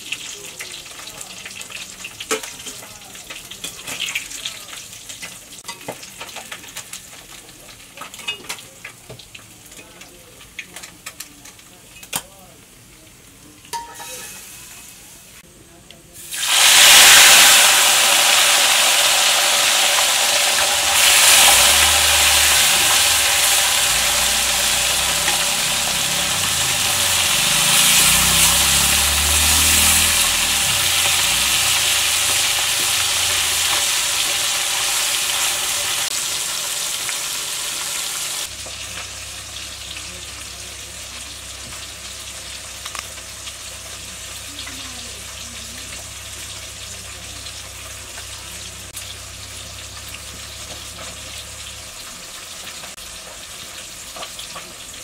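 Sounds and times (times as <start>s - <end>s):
fish frying in hot oil: 0.0s - 55.0s.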